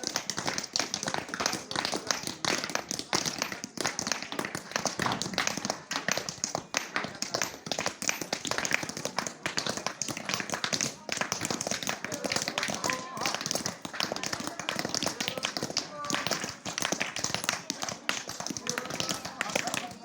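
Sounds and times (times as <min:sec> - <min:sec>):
voices in background: 0:00.0 - 0:20.0.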